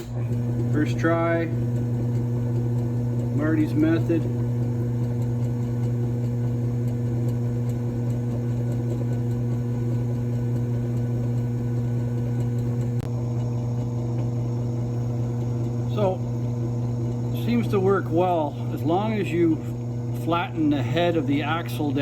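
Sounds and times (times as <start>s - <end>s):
drill press motor humming: 0.0s - 22.0s.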